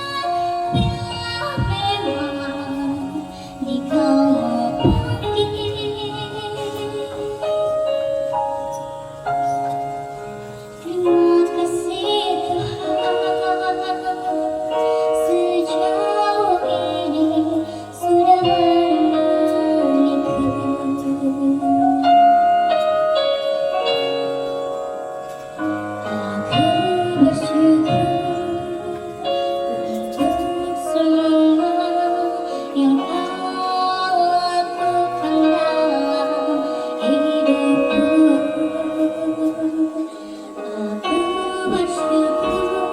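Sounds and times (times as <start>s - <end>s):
woman singing a slow song: 0.0s - 8.8s, 10.7s - 24.6s, 25.6s - 42.9s
instrumental accompaniment: 0.0s - 42.9s.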